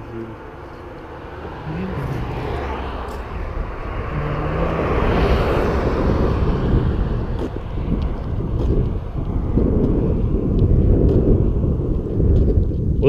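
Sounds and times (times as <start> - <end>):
vehicle tyre noise passing: 0.0 - 13.0
wind rumbling on microphone: 0.0 - 13.0.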